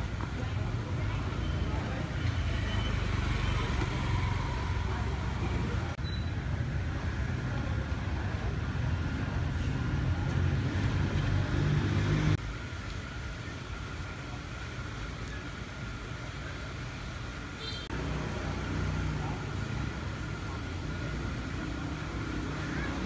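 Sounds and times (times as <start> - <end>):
motorbike engines passing: 0.0 - 12.4, 16.5 - 23.0
street traffic rumble: 0.0 - 23.0.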